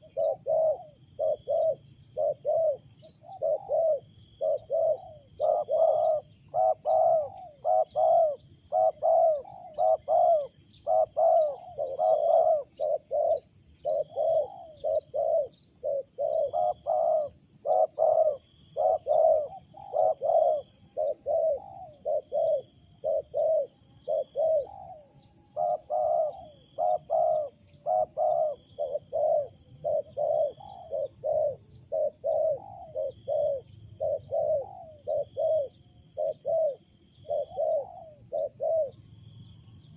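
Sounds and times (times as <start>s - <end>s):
dove cooing: 0.0s - 39.2s
small birds chirping: 0.0s - 39.9s.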